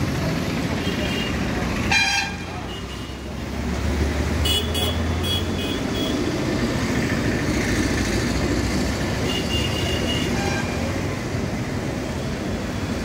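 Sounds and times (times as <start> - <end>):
passing vehicles rumble and hiss: 0.0 - 13.0.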